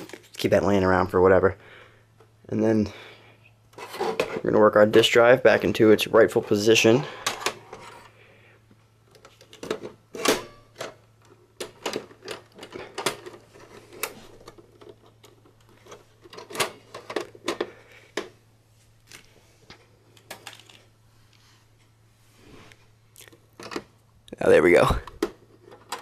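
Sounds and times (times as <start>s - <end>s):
faint low steady hum: 0.0s - 26.0s.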